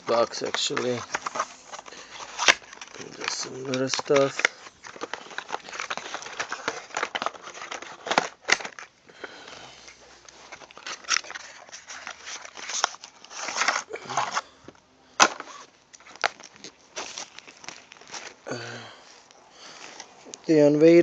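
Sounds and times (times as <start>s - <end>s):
foil packs crinkling: 0.0s - 14.6s, 15.2s - 20.3s.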